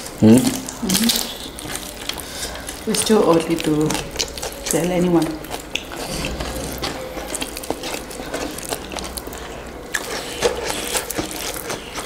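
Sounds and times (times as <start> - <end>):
chewing chicken wings: 0.0 - 12.0
wet mouth clicks and smacks: 0.6 - 12.0.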